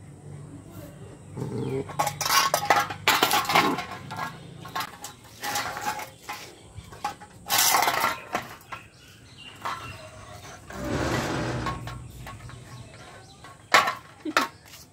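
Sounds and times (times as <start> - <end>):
metal can clattering on concrete: 1.6 - 14.7.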